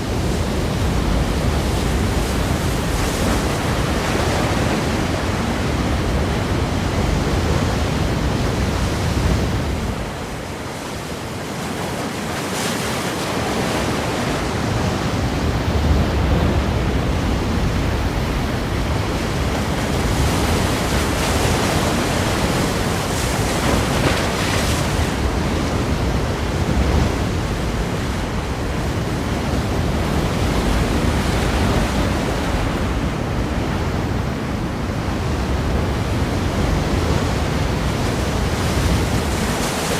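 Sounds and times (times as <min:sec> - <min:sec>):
ocean waves breaking against rocks: 0:00.0 - 0:39.9.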